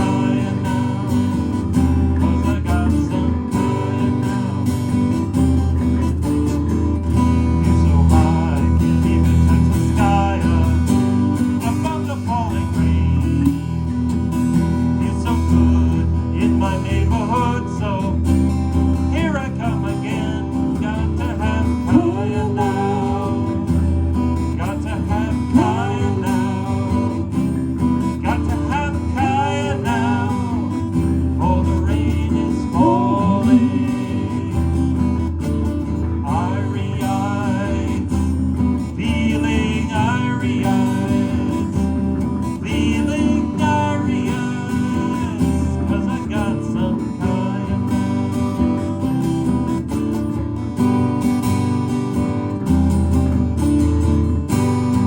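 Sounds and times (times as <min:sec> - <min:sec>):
strummed guitar: 0:00.0 - 0:55.0.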